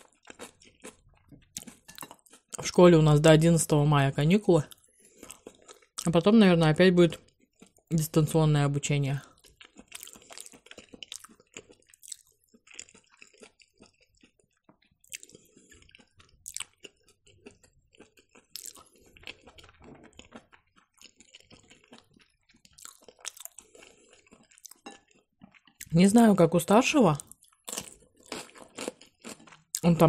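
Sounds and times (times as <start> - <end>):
chewing fried mushrooms: 0.0 - 3.5, 4.6 - 30.0.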